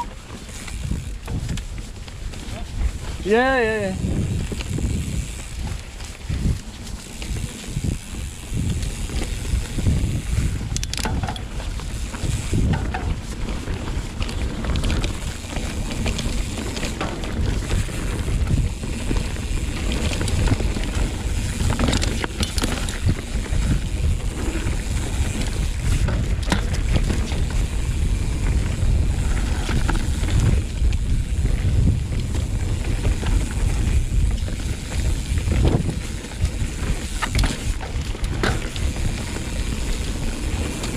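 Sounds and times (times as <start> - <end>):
bike chain and frame rattling: 0.0 - 40.9
wind buffeting microphone: 0.0 - 40.9.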